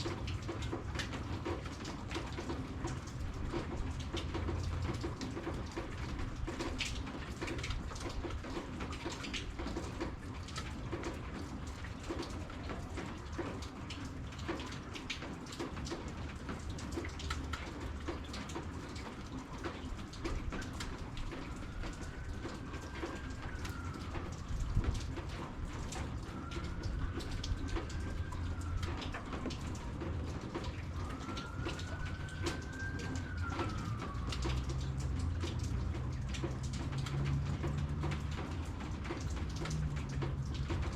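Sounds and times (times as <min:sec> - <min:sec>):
raindrops pattering and dripping: 0:00.0 - 0:40.9
steady rain falling: 0:00.0 - 0:40.9.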